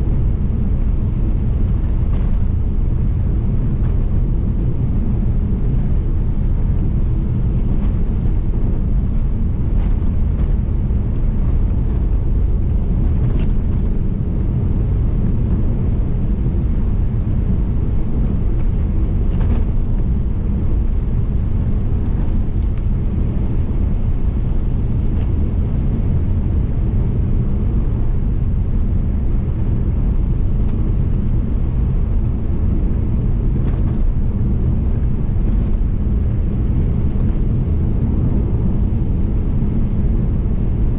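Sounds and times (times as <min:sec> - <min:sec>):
car tyre and engine rumble: 0:00.0 - 0:40.9.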